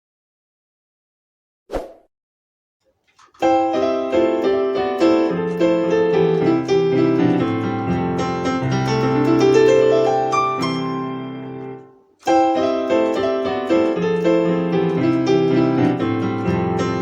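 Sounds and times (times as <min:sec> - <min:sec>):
piano playing gentle chords: 0:03.4 - 0:17.0.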